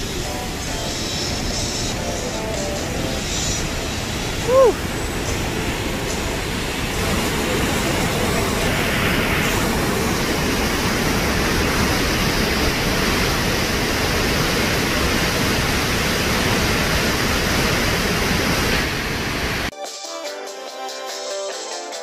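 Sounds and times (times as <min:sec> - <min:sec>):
waterfall rushing: 0:00.0 - 0:19.7.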